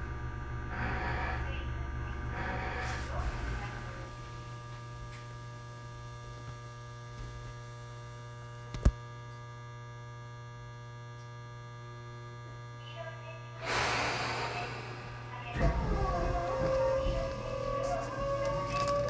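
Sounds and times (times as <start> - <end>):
electric train hum: 0.0 - 7.2, 9.8 - 19.0.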